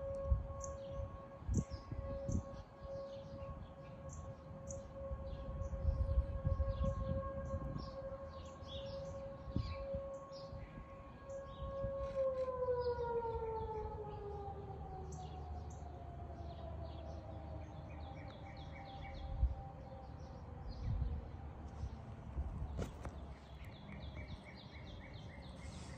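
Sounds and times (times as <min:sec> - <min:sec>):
warning siren winding down: 0:00.0 - 0:22.0
songbirds chirping: 0:00.0 - 0:25.9.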